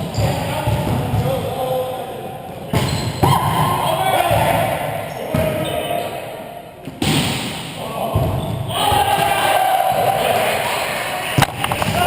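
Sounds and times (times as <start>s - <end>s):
players' voices: 0.0s - 7.0s, 7.6s - 12.0s.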